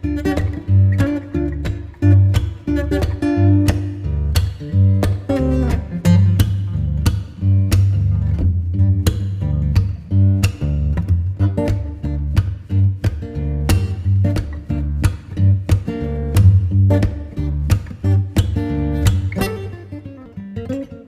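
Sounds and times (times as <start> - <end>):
acoustic guitar music with beat: 0.0 - 21.0.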